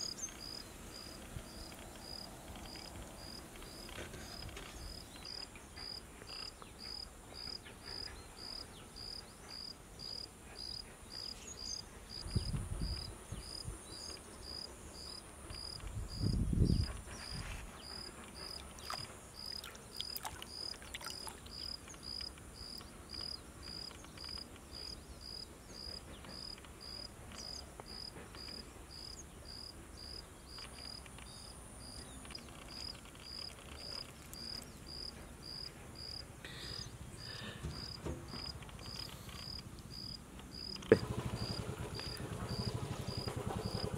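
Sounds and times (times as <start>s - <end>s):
cricket chirping: 0.0s - 43.9s
faint high insect hum: 0.0s - 43.9s.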